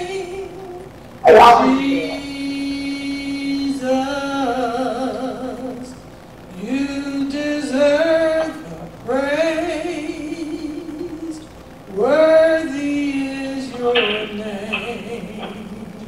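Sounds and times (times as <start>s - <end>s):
voices singing worship song: 0.0s - 16.0s.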